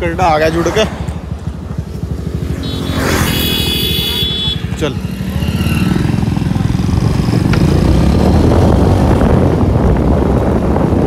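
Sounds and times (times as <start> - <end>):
motorcycle engine at speed: 0.0 - 11.0
road noise: 0.0 - 11.0.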